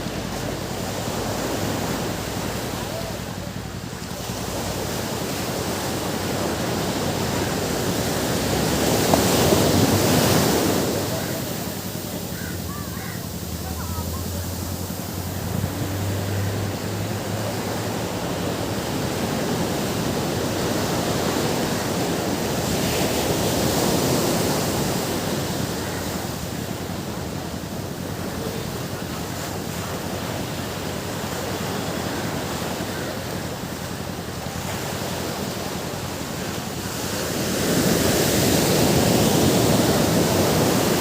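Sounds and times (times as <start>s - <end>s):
ocean waves washing onto beach: 0.0s - 41.0s.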